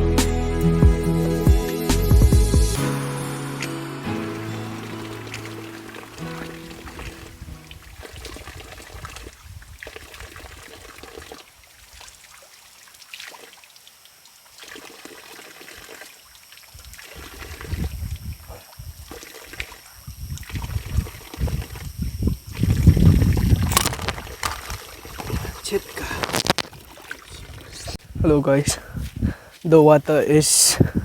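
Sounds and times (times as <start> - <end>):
water trickling and splashing: 4.0 - 30.7.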